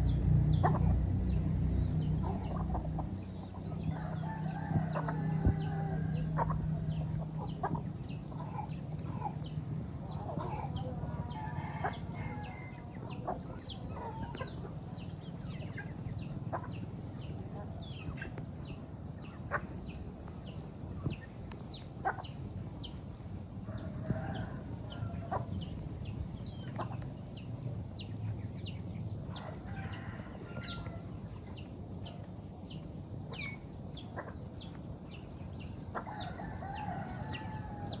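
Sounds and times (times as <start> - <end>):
chicken calls: 0.0 - 28.4, 29.2 - 32.3, 33.0 - 38.0
chickens clucking: 0.0 - 38.0.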